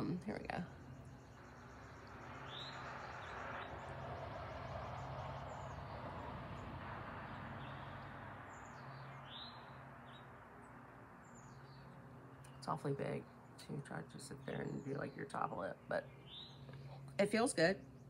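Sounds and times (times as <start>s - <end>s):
birds chirping: 0.0s - 18.0s
low hum: 0.0s - 18.0s.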